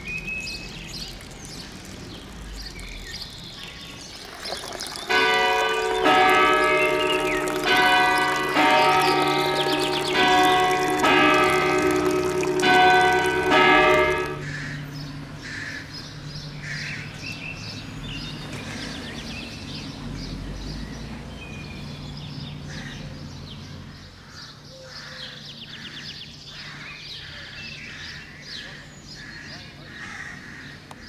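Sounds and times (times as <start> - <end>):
birds calling and chirping: 0.0 - 31.0.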